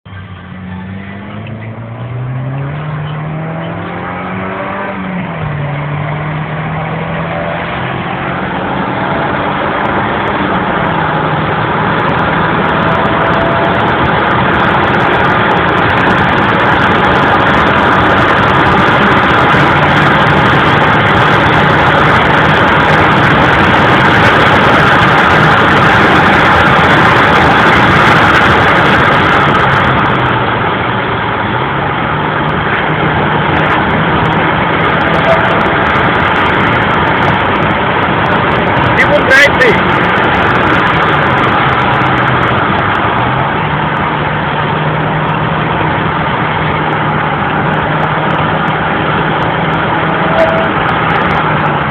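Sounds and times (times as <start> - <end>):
road and wind noise: 0.0 - 51.9
car engine accelerating: 0.1 - 51.9.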